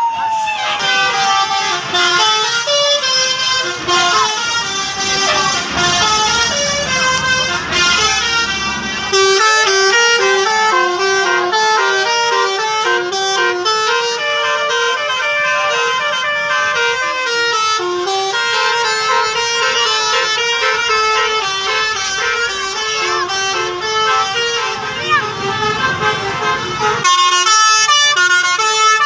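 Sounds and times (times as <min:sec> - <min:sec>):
musical air horns: 0:00.0 - 0:29.0.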